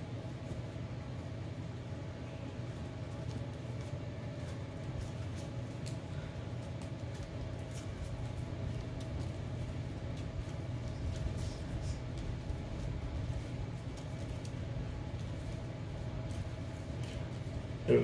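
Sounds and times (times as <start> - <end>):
low room hum: 0.0 - 18.0
cards being shuffled: 2.6 - 18.0.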